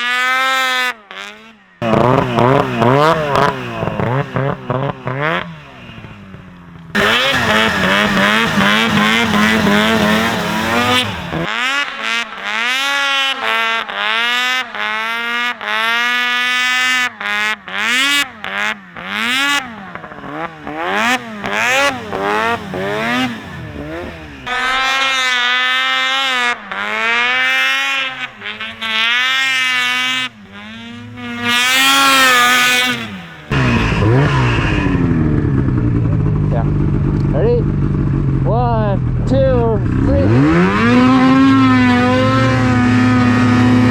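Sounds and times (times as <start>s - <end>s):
snowmobile engine revving: 0.0s - 43.9s.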